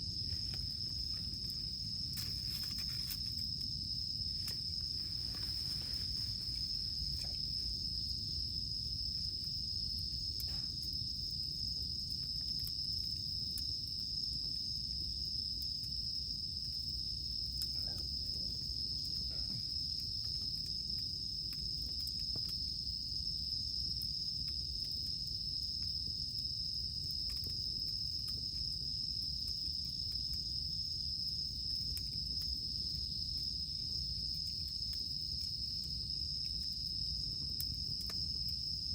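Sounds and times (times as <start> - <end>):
campfire crackling: 0.0 - 38.9
cicadas droning: 0.0 - 38.9.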